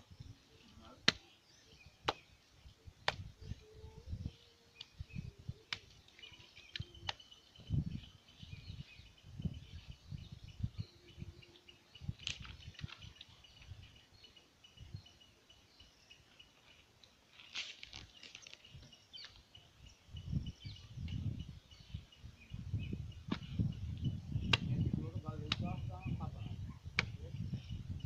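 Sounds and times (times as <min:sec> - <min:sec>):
faint high chirping: 0:00.0 - 0:25.2.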